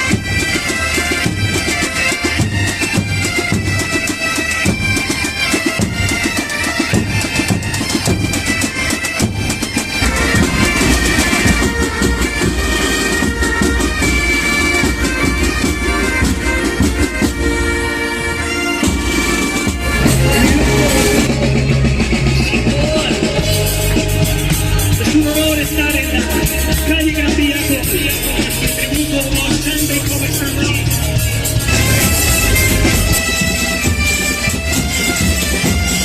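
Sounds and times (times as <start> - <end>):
drum beats: 0.0 - 17.9, 18.8 - 36.0
bagpipes playing melody: 0.0 - 36.0.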